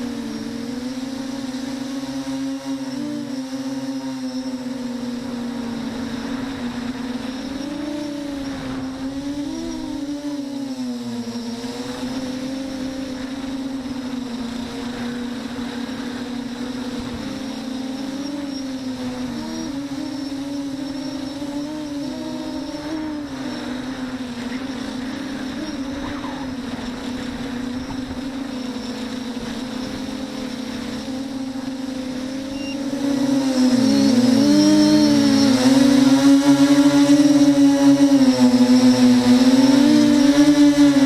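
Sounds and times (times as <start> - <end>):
model aircraft propeller buzzing: 0.0 - 41.0.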